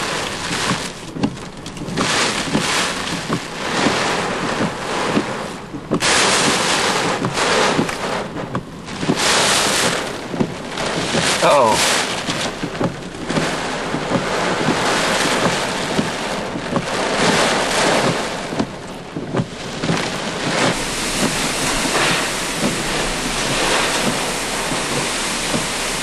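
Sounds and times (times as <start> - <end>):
driving rain: 0.0 - 26.0
wind gusting and buffeting: 0.0 - 26.0.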